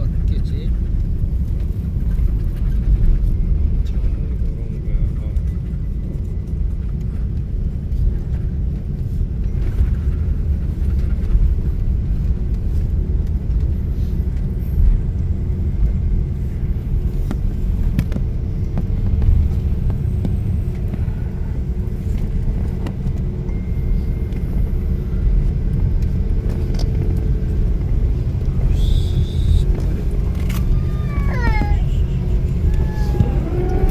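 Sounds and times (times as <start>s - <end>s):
airliner cabin rumble: 0.0s - 33.9s
faint engine hum: 0.0s - 33.9s.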